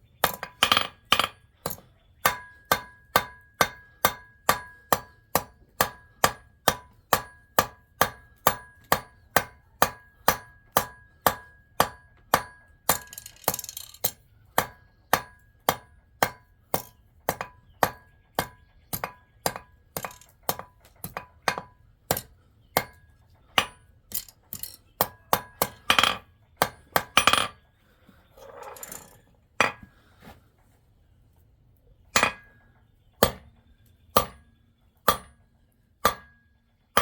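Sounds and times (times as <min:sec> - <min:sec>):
hand hammer striking metal: 0:00.2 - 0:27.6, 0:28.7 - 0:29.9, 0:32.2 - 0:32.6, 0:33.2 - 0:33.5, 0:34.1 - 0:34.4, 0:35.0 - 0:35.4, 0:36.0 - 0:36.4.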